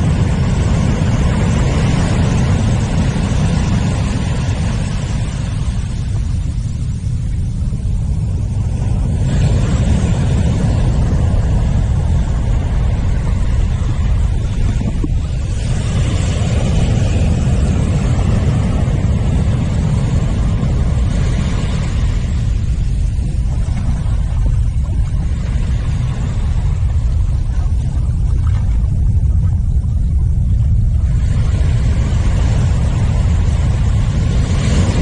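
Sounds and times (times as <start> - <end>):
surf washing on beach: 0.0 - 35.0.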